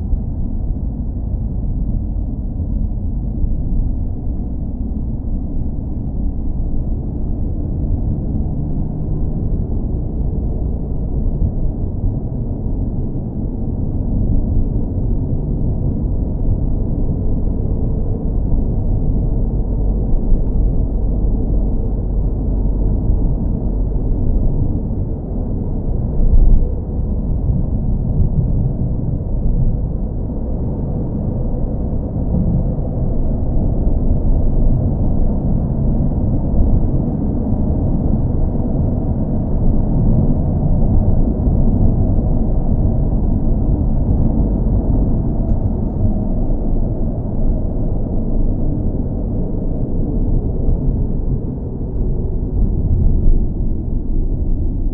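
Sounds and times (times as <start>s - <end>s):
car engine rumbling: 0.0s - 54.9s.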